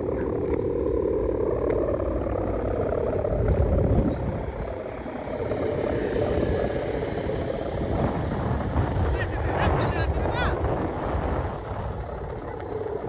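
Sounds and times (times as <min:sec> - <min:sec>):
propeller motor droning: 0:00.0 - 0:13.0
wind buffeting microphone: 0:00.0 - 0:13.0.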